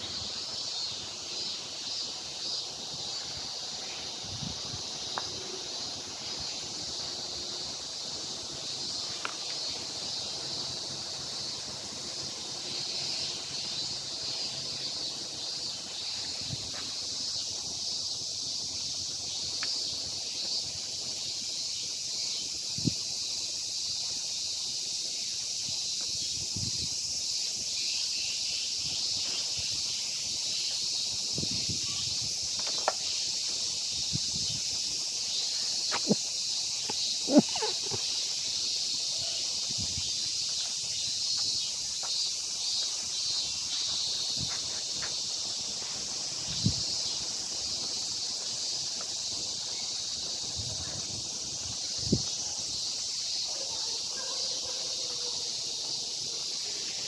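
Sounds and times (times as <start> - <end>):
cicadas singing: 0.0 - 57.0.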